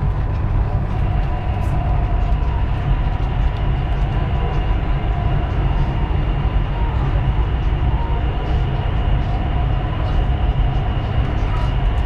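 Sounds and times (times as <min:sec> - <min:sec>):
faint steady whine: 0:00.0 - 0:12.0
train rumble inside carriage: 0:00.0 - 0:12.0.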